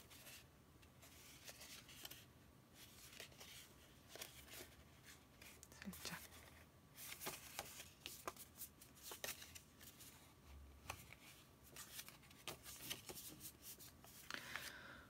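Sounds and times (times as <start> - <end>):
paper rustles: 1.0 - 14.7.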